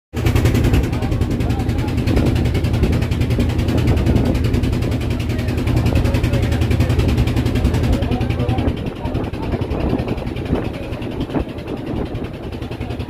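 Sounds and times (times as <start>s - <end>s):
motorboat engine chugging: 0.2s - 13.0s.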